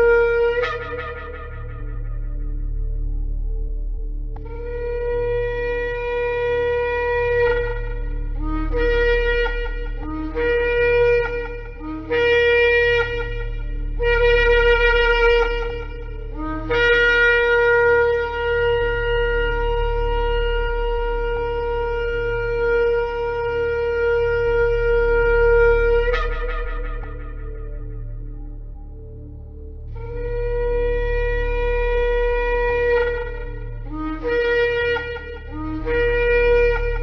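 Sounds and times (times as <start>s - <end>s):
ram's horn blasts: 0.0s - 37.0s.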